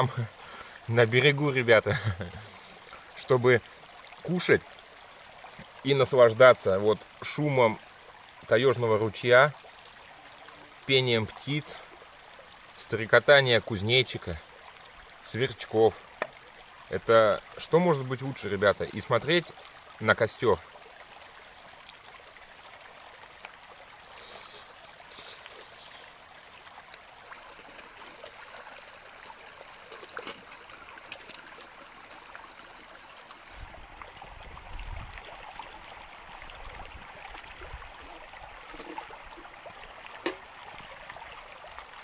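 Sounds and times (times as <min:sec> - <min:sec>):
stream babbling over stones: 0:00.0 - 0:42.0.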